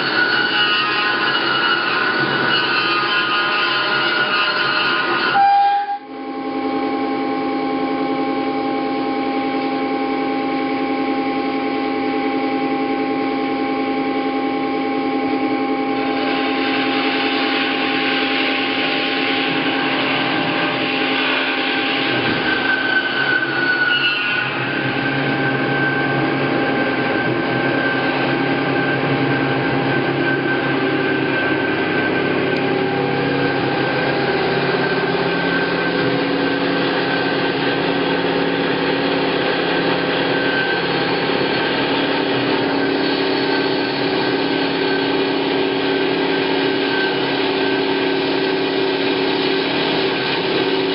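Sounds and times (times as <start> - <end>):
bandsaw humming: 0.0 - 6.2, 15.9 - 50.9.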